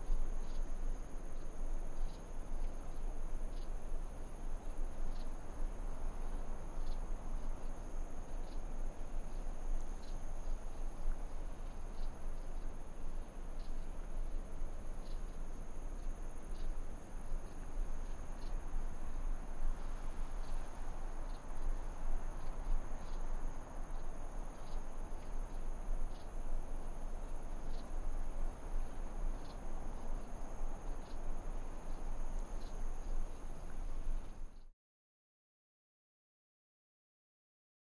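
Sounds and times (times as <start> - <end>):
insects chirping: 0.0 - 34.7.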